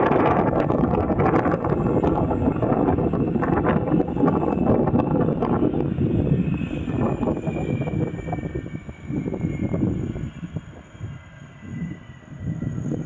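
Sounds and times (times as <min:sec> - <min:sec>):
jet engine whine: 0:00.0 - 0:13.0
low rumble: 0:00.0 - 0:13.0
wind buffeting microphone: 0:00.0 - 0:13.0.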